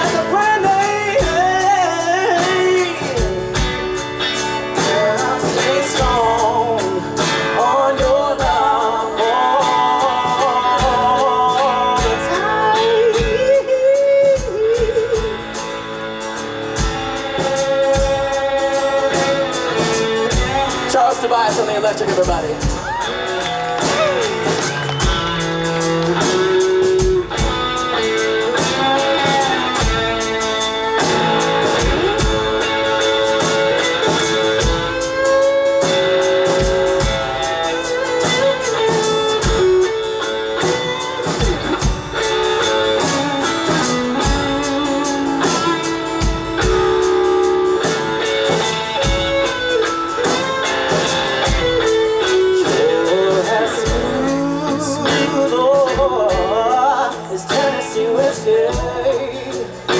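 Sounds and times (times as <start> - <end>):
electric guitar solo: 0.0 - 59.9
live band playing: 0.0 - 59.9.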